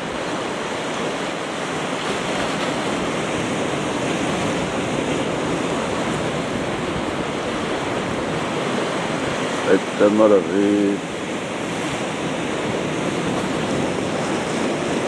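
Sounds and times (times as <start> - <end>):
surf breaking on rocky shore: 0.0 - 15.0.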